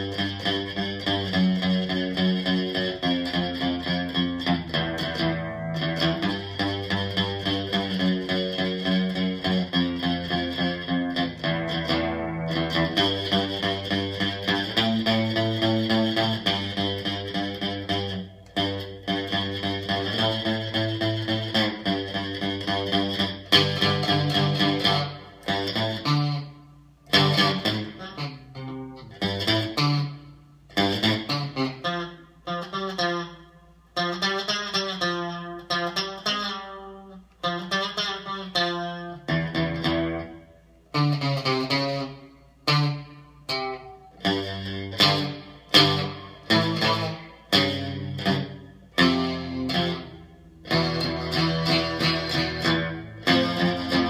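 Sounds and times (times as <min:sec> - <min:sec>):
electric guitar through amplifier: 0:00.0 - 0:54.0.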